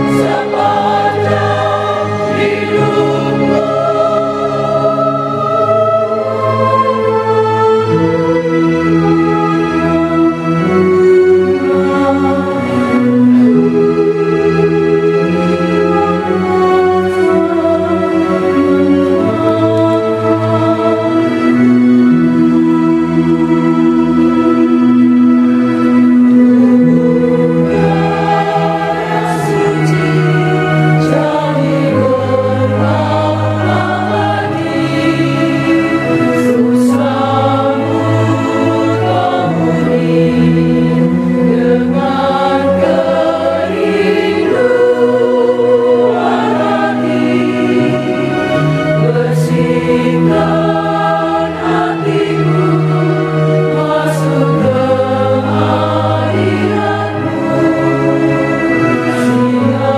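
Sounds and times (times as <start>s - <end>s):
choir singing a hymn: 0.0s - 59.9s
electronic organ chords: 0.0s - 59.9s.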